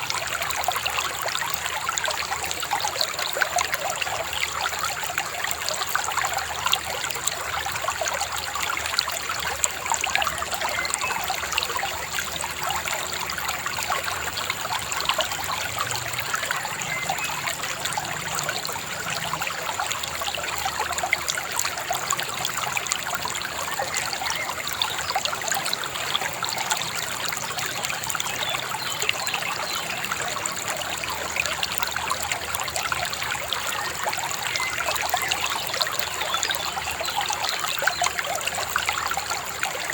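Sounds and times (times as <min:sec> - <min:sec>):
river babbling: 0:00.0 - 0:39.9.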